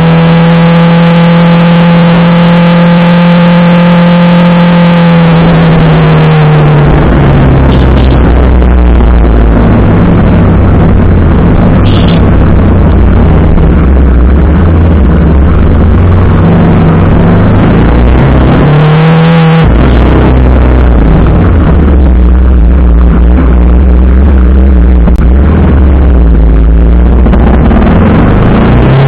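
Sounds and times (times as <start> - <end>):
motorcycle engine running: 0.0 - 29.0
loud rushing noise: 5.3 - 29.0.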